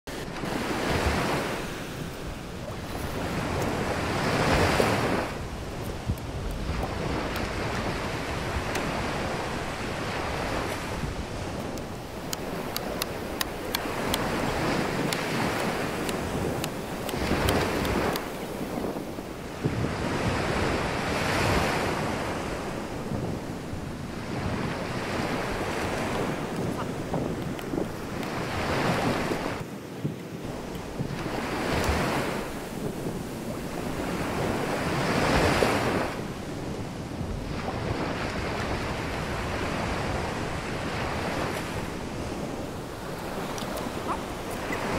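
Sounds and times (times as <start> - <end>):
surf breaking on beach: 0.1 - 44.9
wind buffeting microphone: 0.1 - 44.9.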